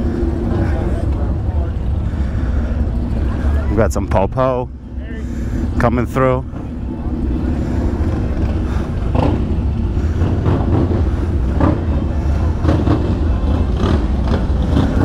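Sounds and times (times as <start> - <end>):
crowd chatter: 0.0 - 15.0
motorcycle engines rumbling: 0.0 - 15.0.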